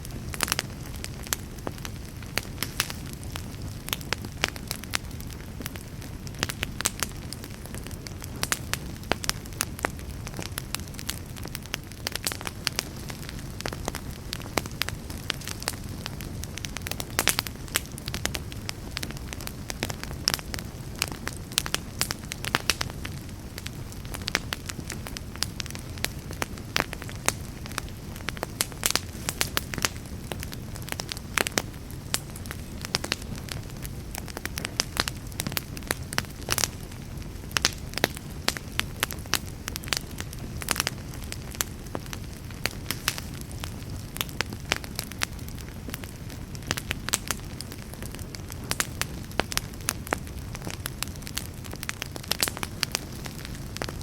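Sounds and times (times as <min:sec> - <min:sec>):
fireplace fire burning: 0:00.0 - 0:54.0.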